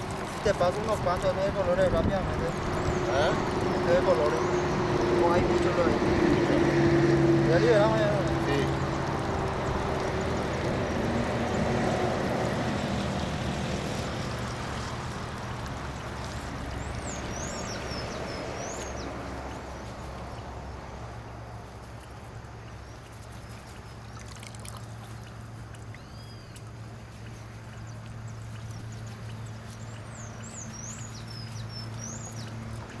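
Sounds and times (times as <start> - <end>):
water pouring and trickling: 0.0 - 33.0.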